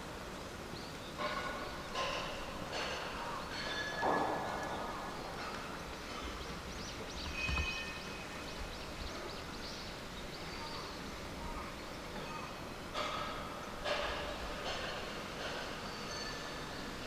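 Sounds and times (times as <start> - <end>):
background hiss: 0.0 - 17.0
birds chirping: 0.7 - 17.0.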